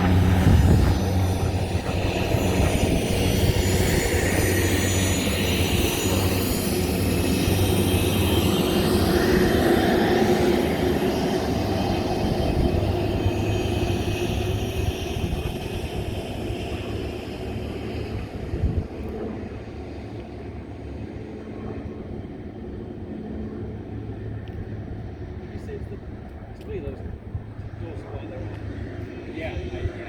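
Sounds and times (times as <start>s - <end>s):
propeller plane engine passing: 0.0s - 30.0s.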